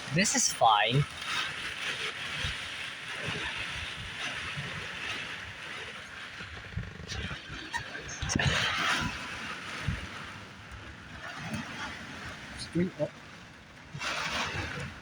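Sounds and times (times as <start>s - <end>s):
steady rain falling: 0.0s - 15.0s
wind buffeting the microphone: 0.0s - 15.0s.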